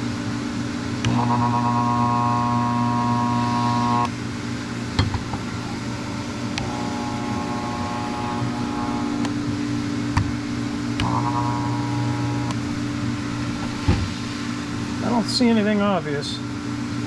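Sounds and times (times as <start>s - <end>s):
electromagnetic yoke buzzing: 0.0s - 15.2s
low workshop hum: 0.0s - 17.0s.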